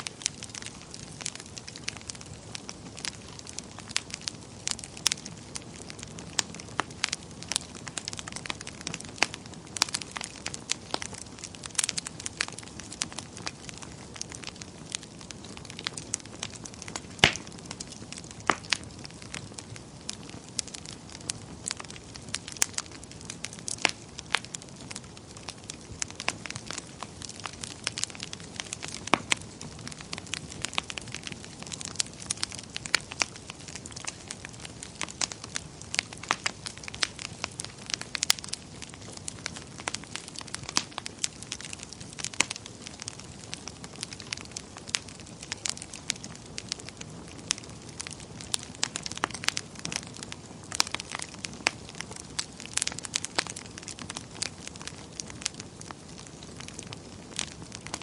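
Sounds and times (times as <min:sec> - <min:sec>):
steady rush of flame: 0:00.0 - 0:58.0
wood fire crackling and popping: 0:00.0 - 0:58.0.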